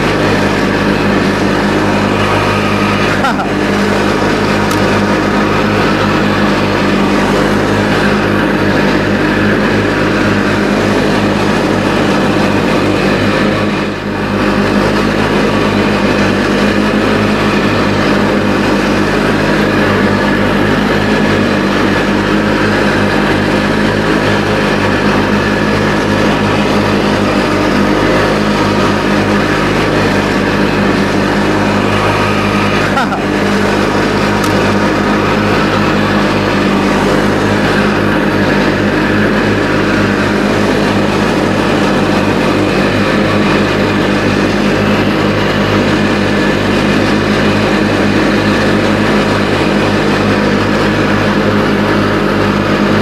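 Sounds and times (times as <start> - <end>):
lawn tractor engine mowing: 0.0 - 53.0.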